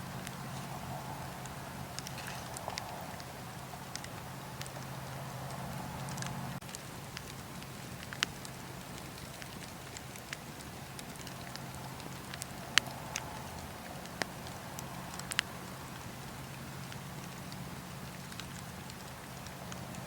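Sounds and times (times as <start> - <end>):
fire popping: 0.0 - 20.0
low background noise: 0.0 - 20.0
wood fire crackling: 0.0 - 20.0.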